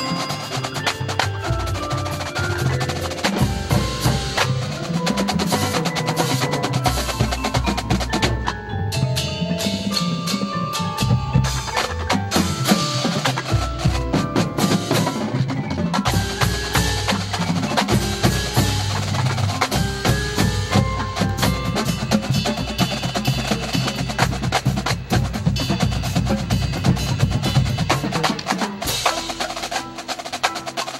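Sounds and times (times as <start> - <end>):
mallet percussion notes: 0.0 - 30.9
rapid drum strokes: 0.0 - 30.9.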